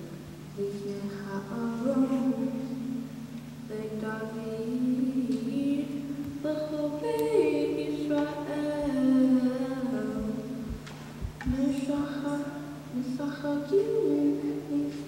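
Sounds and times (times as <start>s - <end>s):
woman chanting unaccompanied: 0.0s - 3.0s, 3.6s - 10.8s, 11.4s - 15.0s.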